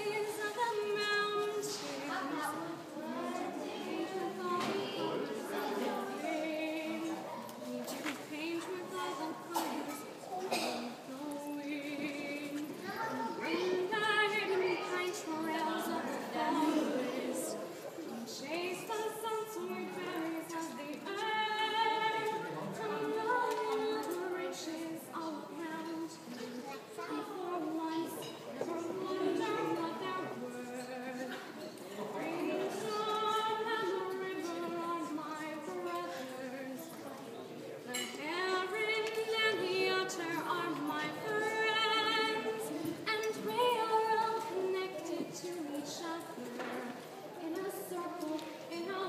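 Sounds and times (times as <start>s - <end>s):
woman singing unaccompanied: 0.0s - 10.2s, 10.8s - 17.6s, 18.3s - 37.2s, 37.9s - 49.0s.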